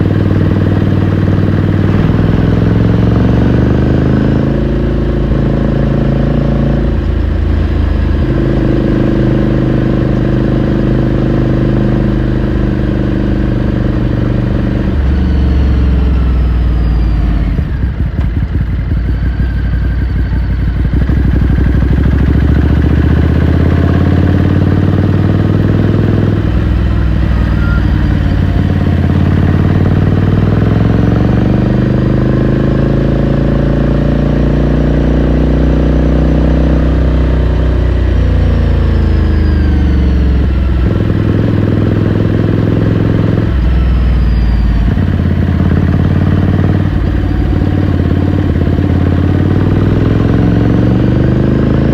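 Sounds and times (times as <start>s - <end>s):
motorcycle engine and exhaust: 0.0s - 51.9s.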